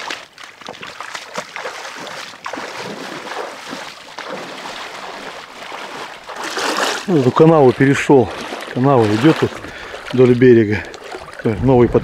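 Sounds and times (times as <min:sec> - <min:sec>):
wading splashes in water: 0:00.0 - 0:12.0.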